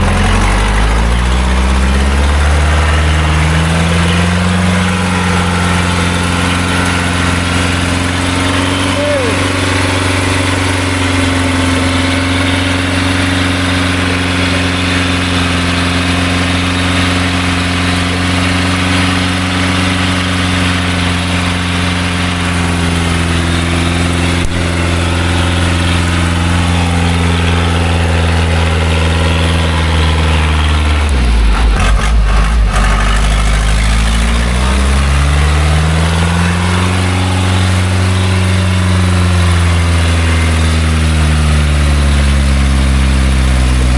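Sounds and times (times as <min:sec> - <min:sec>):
truck engine running hard: 0:00.0 - 0:43.9.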